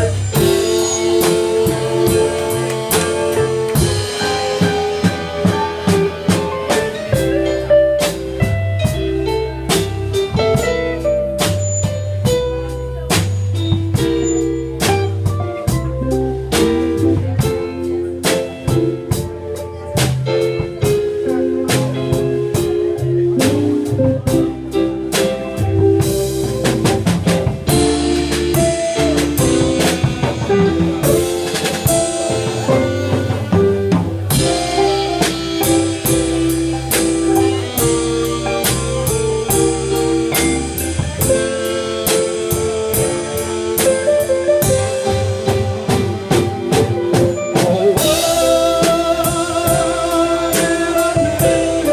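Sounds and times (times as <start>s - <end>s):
alto saxophone: 0.0s - 51.9s
drum kit beat: 0.0s - 51.9s
keyboard: 0.0s - 51.9s.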